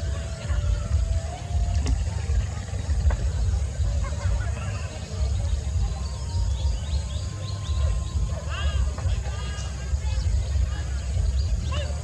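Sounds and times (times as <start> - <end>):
faint bird chirps: 0.0 - 12.0
low rumble: 0.0 - 12.0.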